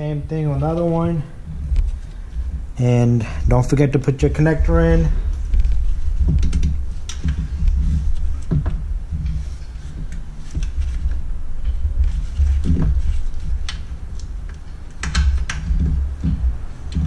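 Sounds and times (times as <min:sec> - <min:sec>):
low rumble: 0:00.0 - 0:14.8.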